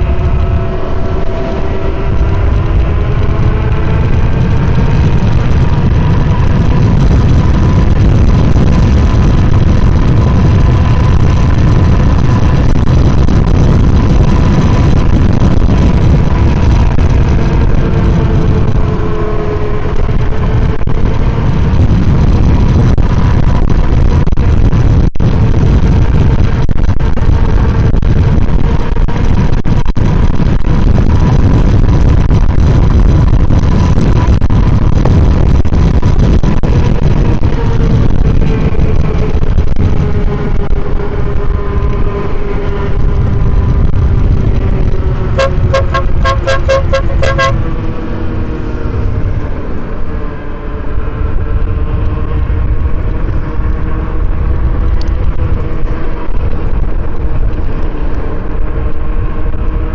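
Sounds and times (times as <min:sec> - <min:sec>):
road noise: 0:00.0 - 0:59.9
wind buffeting microphone: 0:00.0 - 0:59.9.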